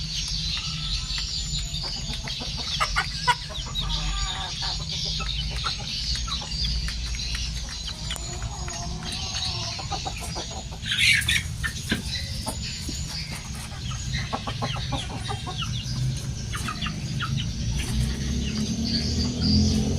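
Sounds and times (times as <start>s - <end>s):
chickens clucking: 0.0s - 19.9s.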